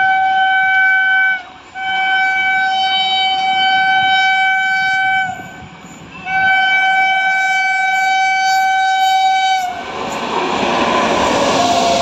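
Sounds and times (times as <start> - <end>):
locomotive horn blast: 0.0 - 9.9
rumble of approaching train: 0.0 - 12.0.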